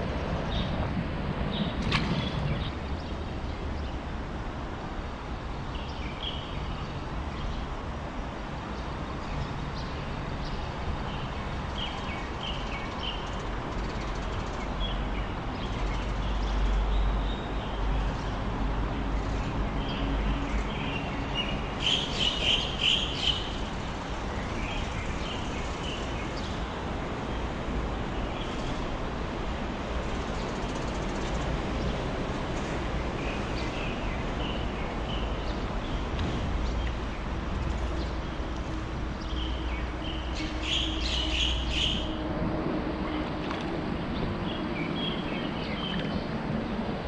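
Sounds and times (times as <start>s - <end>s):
low rumble of traffic: 0.0s - 47.0s.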